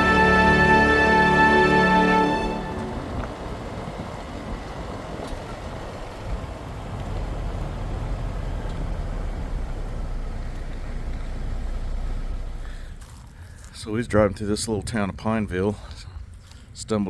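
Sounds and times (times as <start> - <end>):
vehicle engine and tyre rumble: 2.4 - 17.0.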